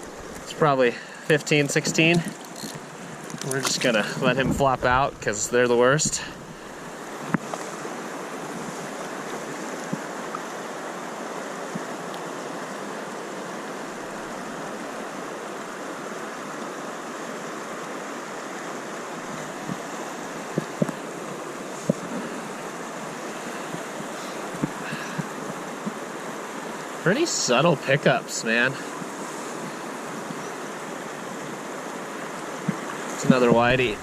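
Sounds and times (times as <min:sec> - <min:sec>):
stream water flowing: 0:00.0 - 0:34.0.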